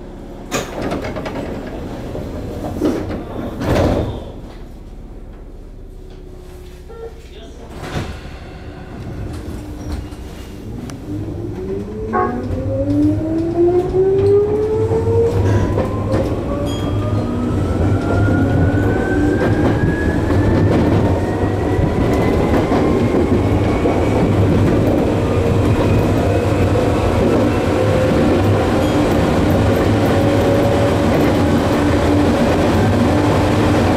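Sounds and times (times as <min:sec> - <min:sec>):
train wheels rumbling: 0:00.0 - 0:33.9.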